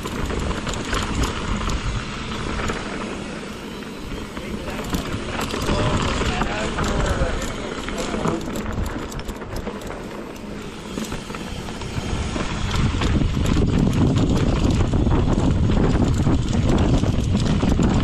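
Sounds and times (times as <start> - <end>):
bike rattling over rocks: 0.0 - 18.0
wind buffeting microphone: 0.0 - 18.0.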